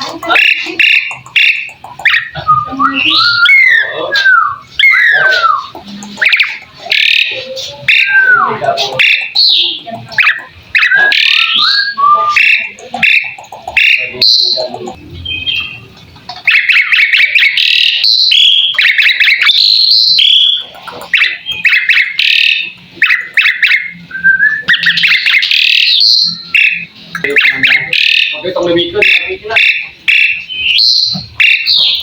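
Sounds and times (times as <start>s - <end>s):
starling singing: 0.0s - 32.0s.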